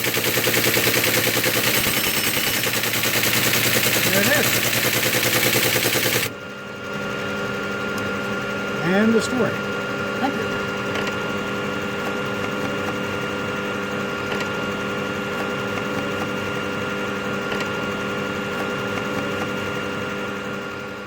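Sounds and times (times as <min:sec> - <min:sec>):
computer hum and whine: 0:00.0 - 0:21.0.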